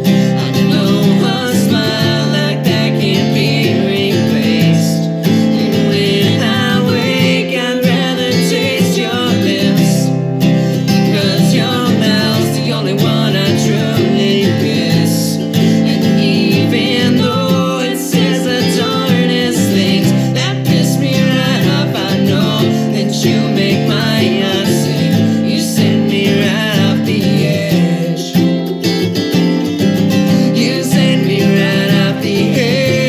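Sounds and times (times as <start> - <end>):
acoustic guitar: 0.0 - 33.0
man and woman singing: 0.0 - 33.0
mandolin: 0.0 - 33.0.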